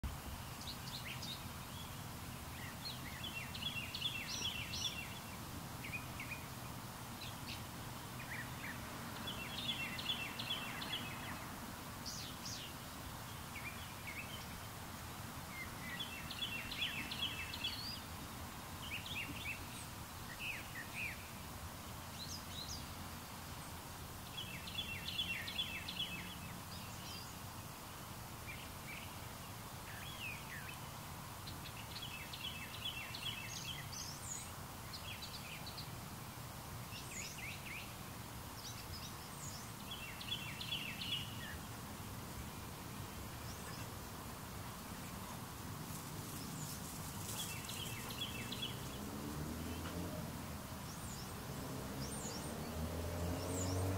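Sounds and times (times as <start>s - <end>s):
songbirds calling: 0.0s - 53.9s
steady hiss: 0.0s - 53.9s.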